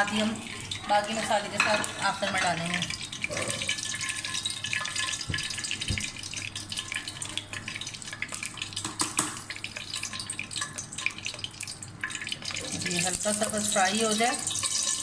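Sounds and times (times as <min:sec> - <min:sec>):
leaves frying in sizzling oil: 0:00.0 - 0:15.0.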